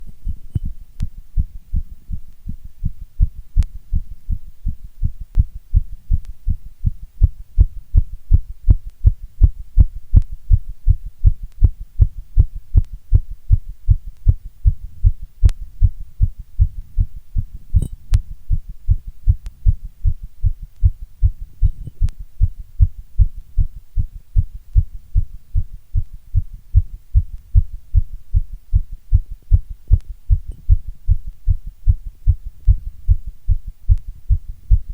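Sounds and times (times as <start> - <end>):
heartbeat thumps: 0.0 - 34.9.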